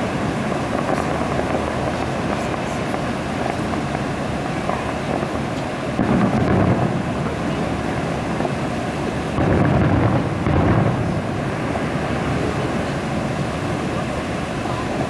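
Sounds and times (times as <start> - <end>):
distant fireworks booming: 0.0 - 15.0.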